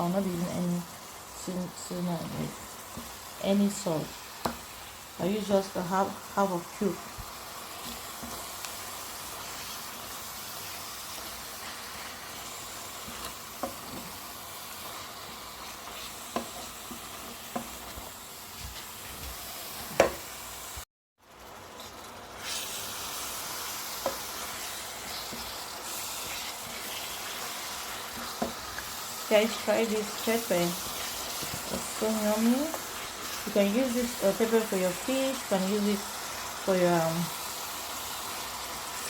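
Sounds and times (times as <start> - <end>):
paste sizzling in oil: 0.0 - 39.0.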